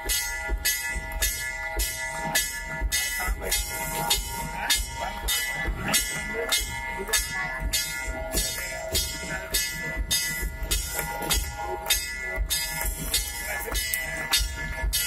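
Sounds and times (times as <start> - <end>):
bells ringing: 0.0 - 15.0
clanging metal percussion: 0.0 - 15.0.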